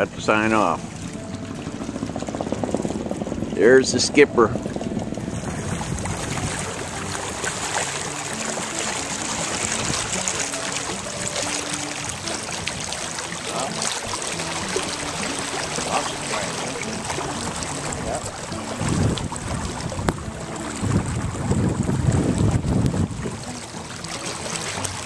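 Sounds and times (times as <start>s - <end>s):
water rushing along boat hull: 0.0s - 25.0s.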